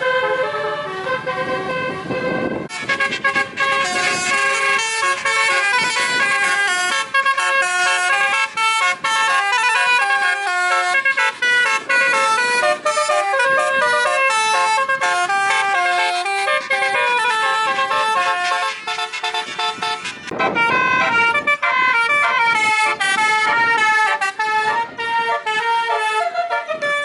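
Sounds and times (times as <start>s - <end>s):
multi-tone musical vehicle horn: 0.0s - 27.0s.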